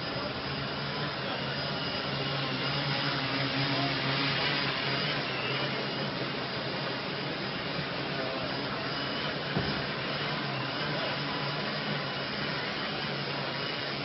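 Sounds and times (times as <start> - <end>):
quadcopter propellers whirring: 0.0 - 14.0.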